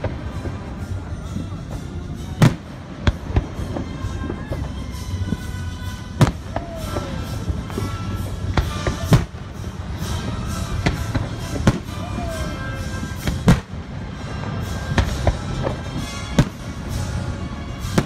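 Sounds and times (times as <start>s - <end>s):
continuous low rumble: 0.0s - 18.0s
fireworks booms and cracks: 0.0s - 18.0s.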